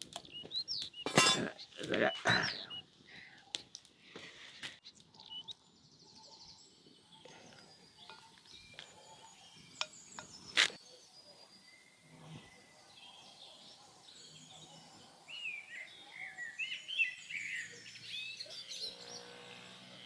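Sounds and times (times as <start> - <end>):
faint chirping: 0.0 - 3.8, 4.4 - 19.0.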